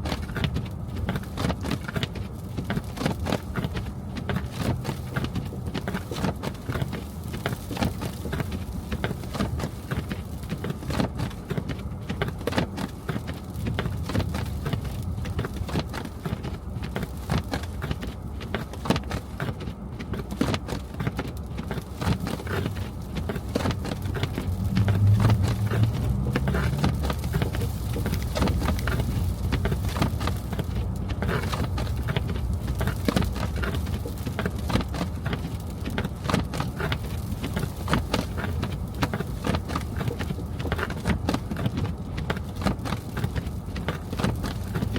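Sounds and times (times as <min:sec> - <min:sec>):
low road rumble: 0:00.0 - 0:44.9
tyres crackling on slush: 0:00.0 - 0:44.9.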